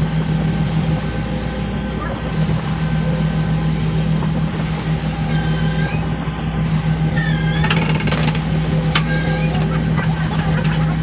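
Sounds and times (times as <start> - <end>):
boat engine humming: 0.0 - 11.0
water churning beside hull: 0.0 - 11.0.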